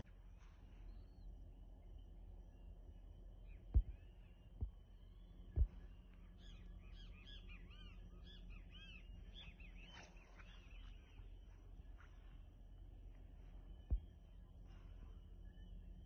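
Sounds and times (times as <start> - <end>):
bird chirps: 0.0 - 12.5, 13.1 - 16.0
low steady rumble: 0.0 - 16.0.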